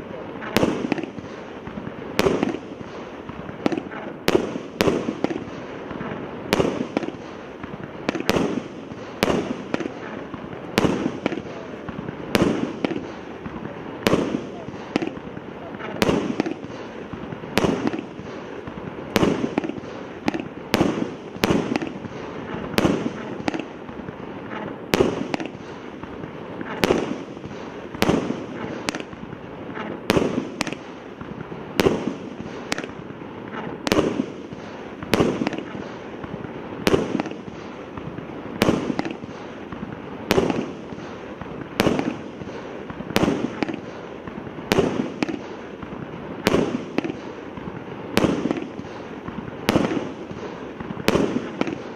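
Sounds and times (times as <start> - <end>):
fireworks shots firing: 0.0 - 51.9.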